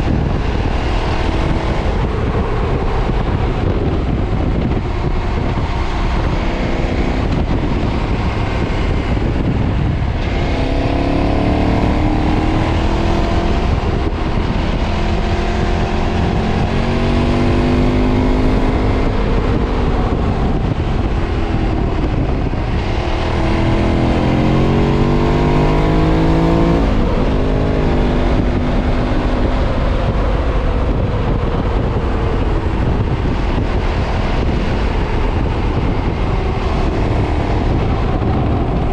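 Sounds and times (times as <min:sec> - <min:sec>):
motorcycle engine revving: 0:00.0 - 0:38.9
wind on microphone: 0:00.0 - 0:38.9.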